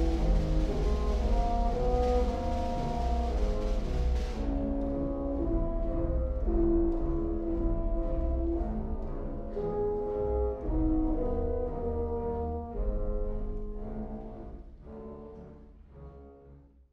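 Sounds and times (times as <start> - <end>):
orchestral music with held notes: 0.0 - 16.9.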